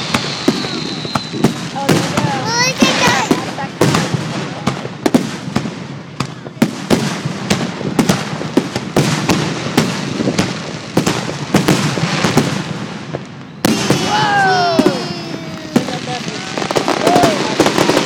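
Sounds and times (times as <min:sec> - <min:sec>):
firework crackle: 0:00.0 - 0:18.0
firework shells booming: 0:00.0 - 0:18.0.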